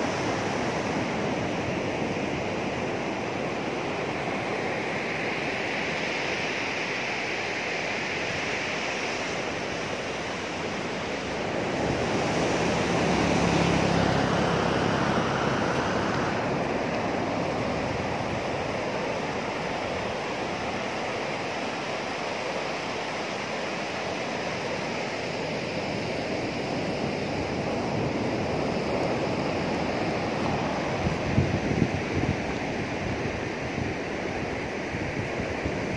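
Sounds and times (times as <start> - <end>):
wind on microphone: 0.0 - 22.0, 23.4 - 35.9
surf breaking on beach: 0.0 - 35.9.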